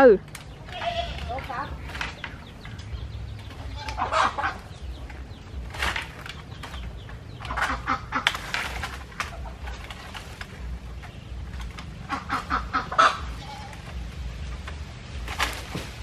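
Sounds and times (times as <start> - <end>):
chickens clucking: 0.0 - 15.9.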